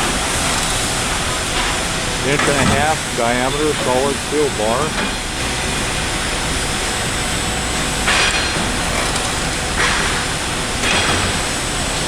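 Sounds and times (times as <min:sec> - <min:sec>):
factory machinery drone: 0:00.0 - 0:12.0.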